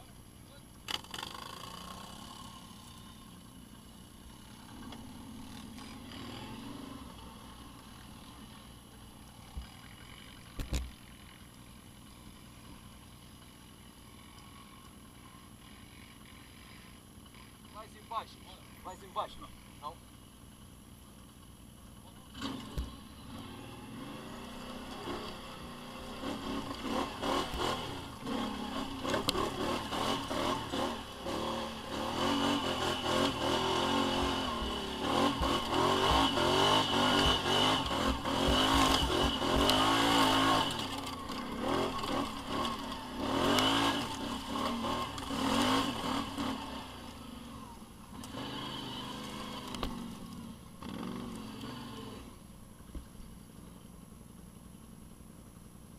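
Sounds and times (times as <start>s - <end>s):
motorcycle and quad engines revving: 0.0s - 20.2s, 21.2s - 52.5s.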